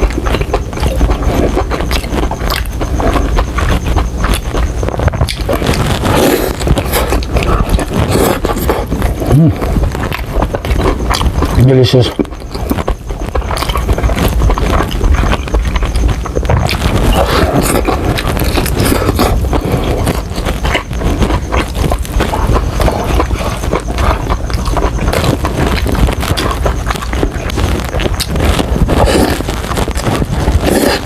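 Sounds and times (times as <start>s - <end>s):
chewing crispy fried chicken: 0.0s - 31.0s.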